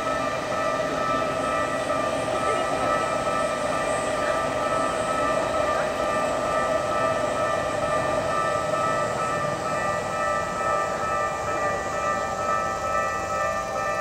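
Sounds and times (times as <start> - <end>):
level-crossing alarm ringing: 0.0 - 14.0
train rumbling on tracks: 0.0 - 14.0.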